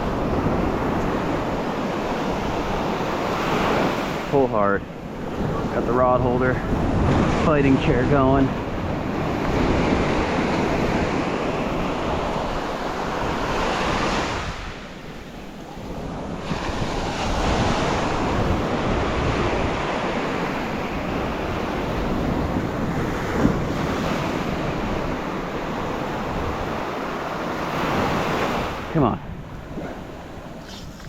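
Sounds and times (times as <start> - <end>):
ocean surf washing ashore: 0.0 - 31.0
wind buffeting microphone: 0.0 - 31.0.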